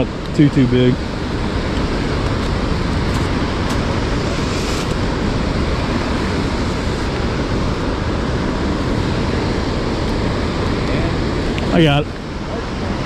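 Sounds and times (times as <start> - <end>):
turbulent river water rushing: 0.0 - 13.0
wind buffeting microphone: 0.0 - 13.0.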